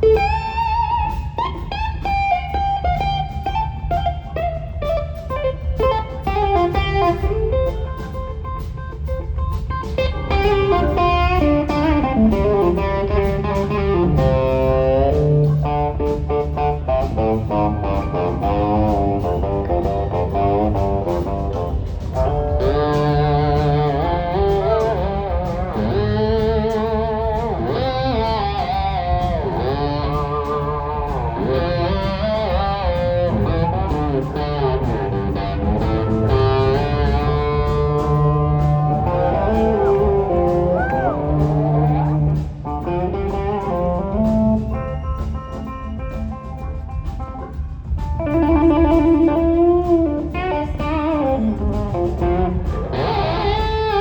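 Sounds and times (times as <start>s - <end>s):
blues-rock band: 0.0s - 54.0s
electric guitar lead: 0.0s - 54.0s.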